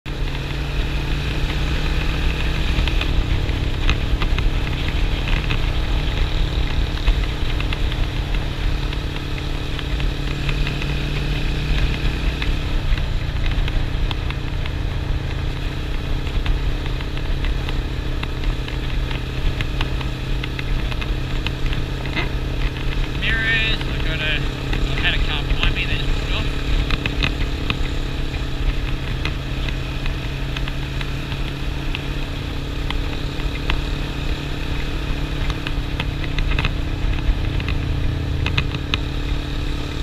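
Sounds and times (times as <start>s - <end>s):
motorcycle engine running: 0.1s - 40.0s
road noise: 0.1s - 40.0s.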